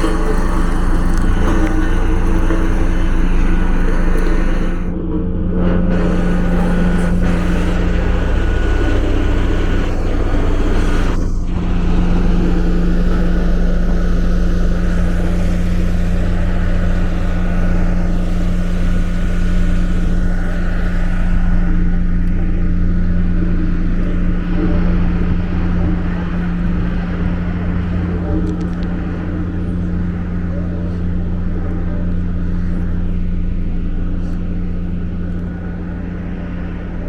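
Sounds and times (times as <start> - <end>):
engine rumbling steadily: 0.0 - 37.0.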